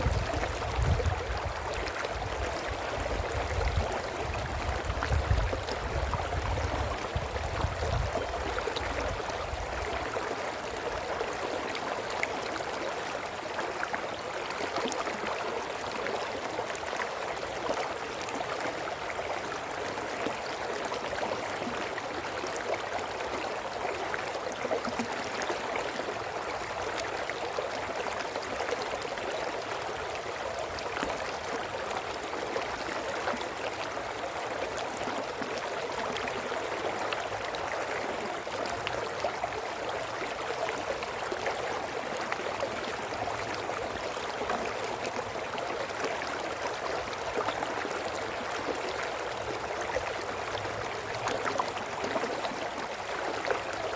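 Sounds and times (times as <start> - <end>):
brook babbling over stones: 0.0 - 53.9.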